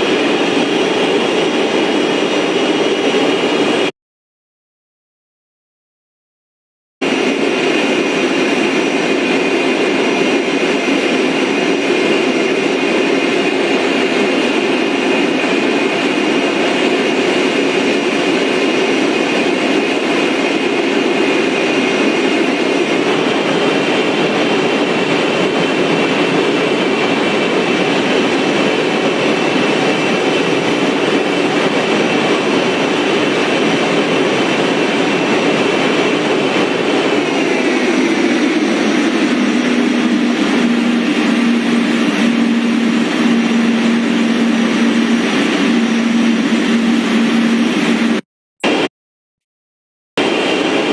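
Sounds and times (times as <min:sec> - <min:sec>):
high engine whine: 0:00.0 - 0:03.9, 0:07.0 - 0:48.9
jet engine rushing noise: 0:00.0 - 0:03.9, 0:07.0 - 0:48.9, 0:50.2 - 0:50.9.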